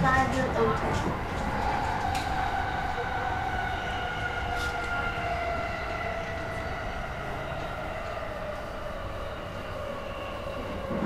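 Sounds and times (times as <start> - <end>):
electric train hissing on rails: 1.4 - 11.0.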